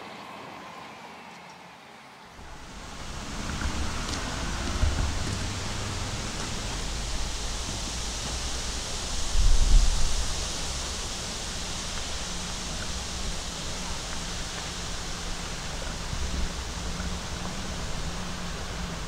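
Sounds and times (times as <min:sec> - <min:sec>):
faint diesel engine hum: 0:00.0 - 0:19.0
wind through leaves: 0:00.0 - 0:19.0.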